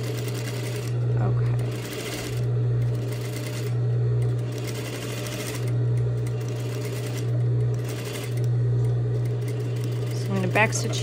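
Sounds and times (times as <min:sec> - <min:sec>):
sewing machine stitching: 0:00.0 - 0:08.5, 0:09.1 - 0:11.0.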